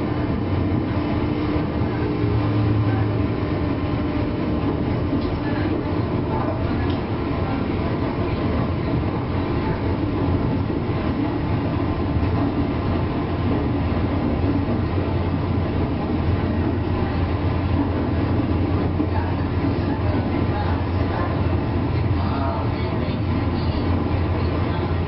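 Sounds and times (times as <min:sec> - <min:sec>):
electric train running noise: 0:00.0 - 0:25.0.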